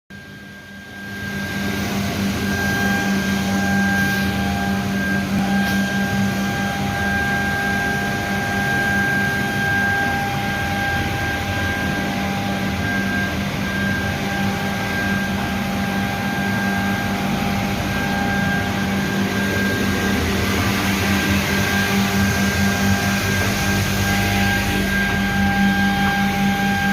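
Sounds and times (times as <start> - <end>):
high machine whine: 0.1 - 26.9
machine hum: 0.2 - 26.9.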